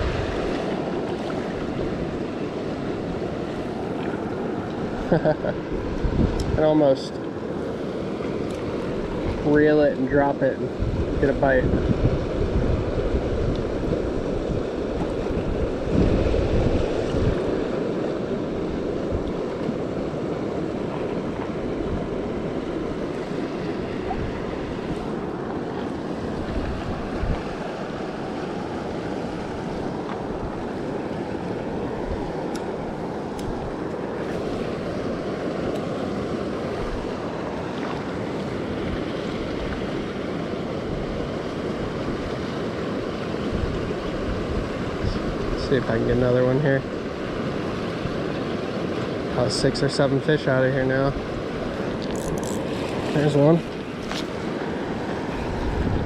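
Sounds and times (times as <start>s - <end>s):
wind buffeting microphone: 0.0s - 4.2s, 4.8s - 6.9s, 8.5s - 37.6s, 43.4s - 48.3s, 51.0s - 56.0s
creek water flowing: 0.0s - 56.0s.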